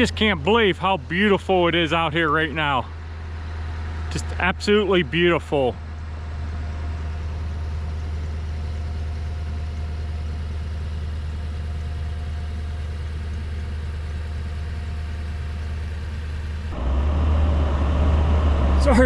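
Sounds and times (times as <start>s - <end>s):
pickup truck engine humming: 0.0s - 19.0s.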